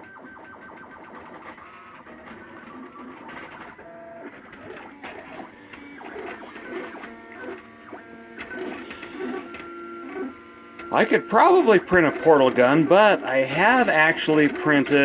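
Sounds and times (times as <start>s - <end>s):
stepper motors whining: 1.5s - 15.0s.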